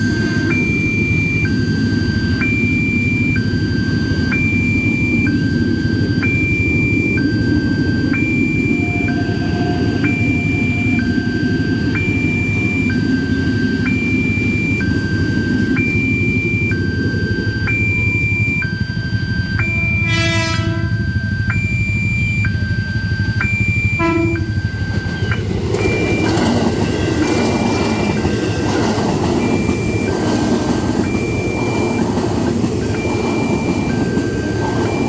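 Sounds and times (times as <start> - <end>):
level crossing alarm two-tone: 0.0 - 35.0
steady low rumble: 0.0 - 35.0.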